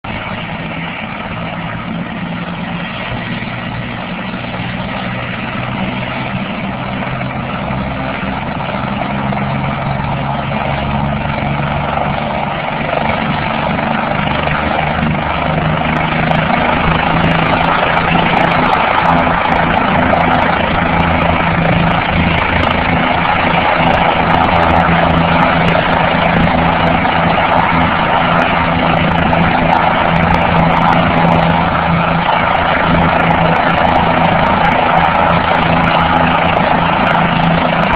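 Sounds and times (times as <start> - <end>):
helicopter engine and rotor: 0.0 - 37.9.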